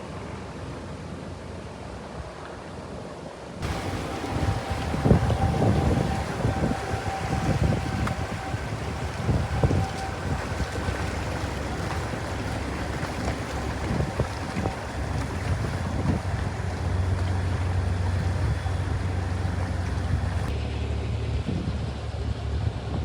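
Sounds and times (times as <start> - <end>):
water noise: 0.0 - 23.0
boat engine humming: 3.6 - 23.0
rushing wind: 3.6 - 23.0.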